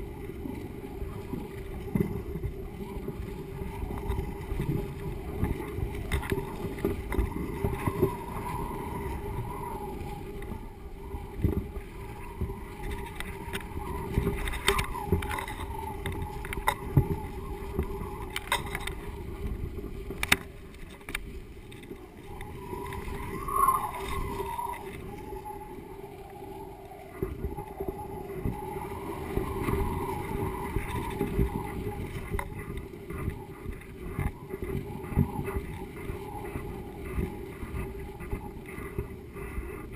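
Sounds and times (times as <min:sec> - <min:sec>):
faint wavering whine: 0:00.0 - 0:39.9
wind buffeting microphone: 0:00.0 - 0:39.9.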